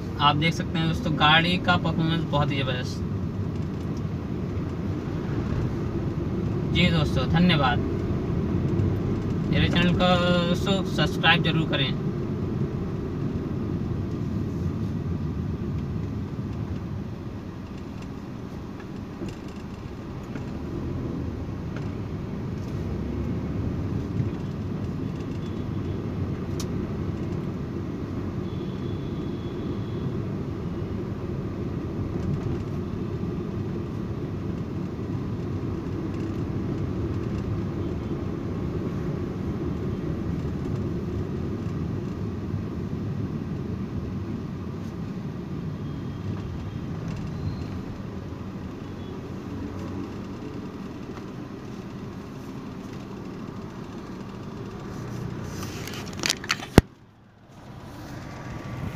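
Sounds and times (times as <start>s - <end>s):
car engine cruising: 0.0s - 58.9s
road noise inside car: 0.0s - 58.9s.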